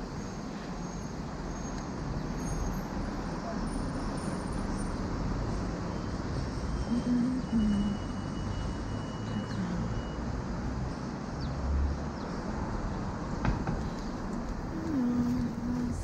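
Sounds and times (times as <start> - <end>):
passing traffic rush: 0.0 - 16.0.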